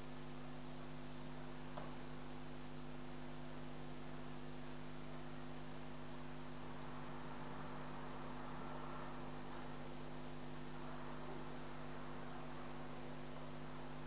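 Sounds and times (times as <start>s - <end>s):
low electrical hum with hiss: 0.0s - 14.0s.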